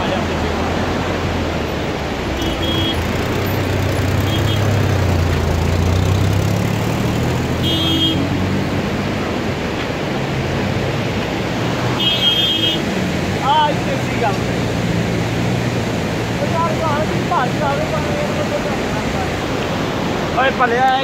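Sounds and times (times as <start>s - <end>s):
car engine humming: 0.0s - 20.7s
steady rushing traffic noise: 0.0s - 21.0s.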